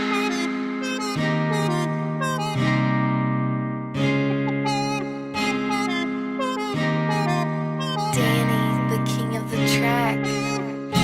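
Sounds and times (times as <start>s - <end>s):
plucked guitar: 0.0s - 11.0s
sustained chords: 0.0s - 11.0s.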